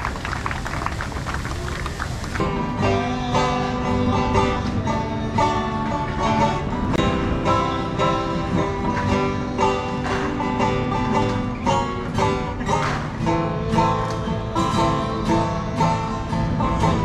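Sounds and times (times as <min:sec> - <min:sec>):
acoustic folk music on plucked strings: 0:02.3 - 0:17.0.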